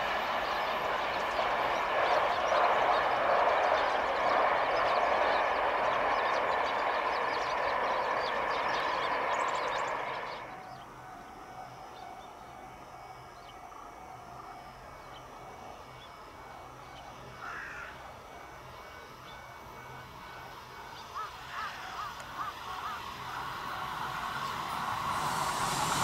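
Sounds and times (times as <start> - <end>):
electric train running past: 0.0 - 26.0.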